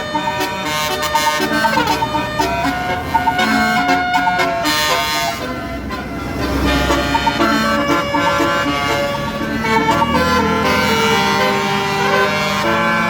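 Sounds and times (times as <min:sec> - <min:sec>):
bus engine rumble: 0:00.0 - 0:13.0
multi-tone musical air horn: 0:00.0 - 0:13.0.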